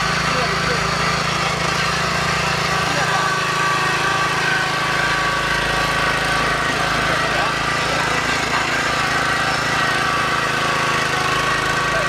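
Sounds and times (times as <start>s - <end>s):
earth auger engine running: 0.0s - 12.0s.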